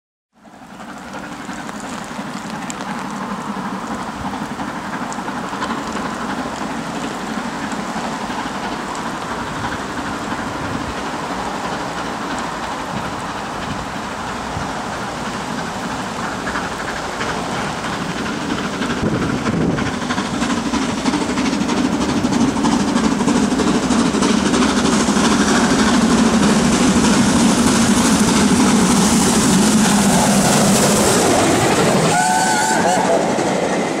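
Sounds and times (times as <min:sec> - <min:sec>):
steam locomotive hauling train: 0:00.3 - 0:34.0
rain hissing: 0:00.5 - 0:34.0.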